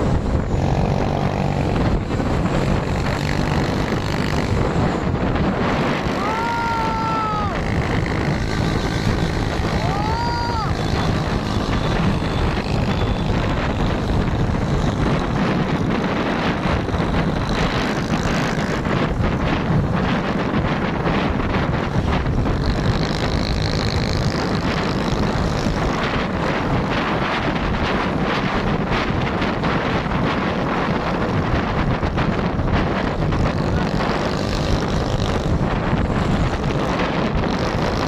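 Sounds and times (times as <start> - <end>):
truck engine rumbling: 0.0 - 28.2, 31.4 - 38.0
wind buffeting microphone: 0.0 - 38.0.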